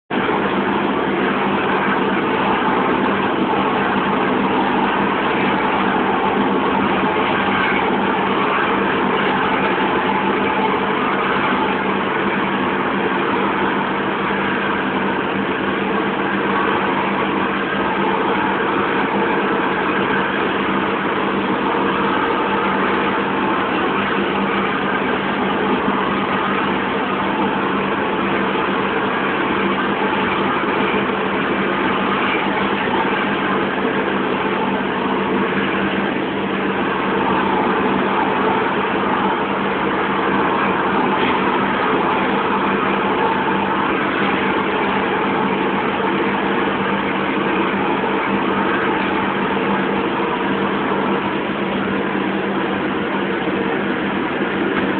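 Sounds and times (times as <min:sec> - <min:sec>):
furnace burner rushing: 0:00.1 - 0:54.9
low hum: 0:00.1 - 0:54.9.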